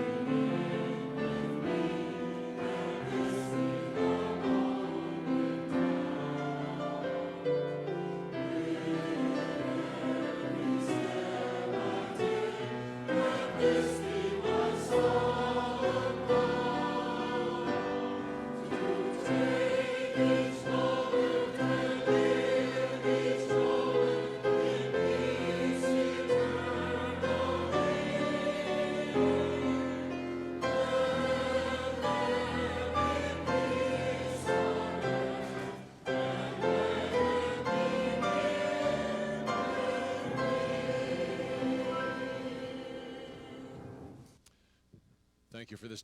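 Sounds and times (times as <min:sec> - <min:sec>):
choir singing a hymn: 0:00.0 - 0:44.3.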